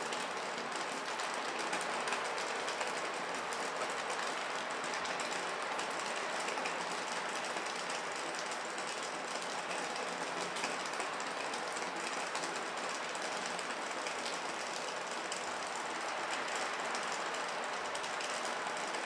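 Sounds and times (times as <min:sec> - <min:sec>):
steady rain patter: 0:00.0 - 0:19.0.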